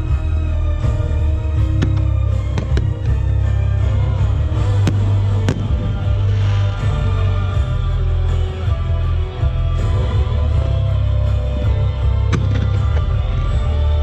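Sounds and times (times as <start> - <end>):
loud music with heavy bass: 0.0 - 14.0.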